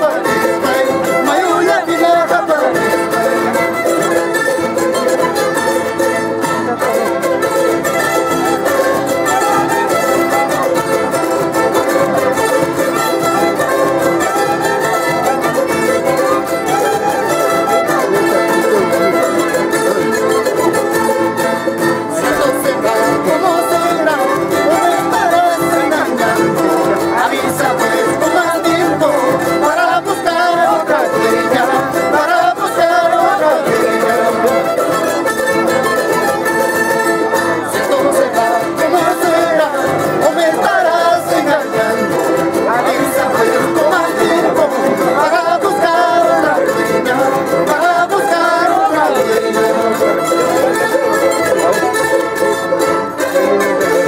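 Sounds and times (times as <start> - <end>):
folk string band playing: 0.0 - 54.0.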